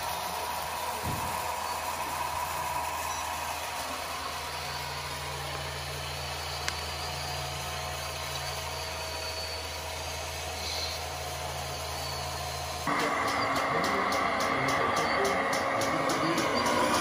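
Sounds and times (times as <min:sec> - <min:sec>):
model vehicle engine humming: 0:00.0 - 0:17.0.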